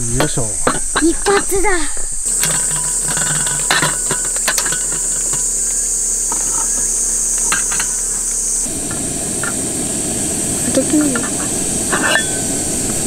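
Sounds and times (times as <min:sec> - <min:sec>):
gas stove hissing: 0:00.0 - 0:13.0
metal pot clinking: 0:00.2 - 0:01.7, 0:02.3 - 0:09.6, 0:10.8 - 0:12.8.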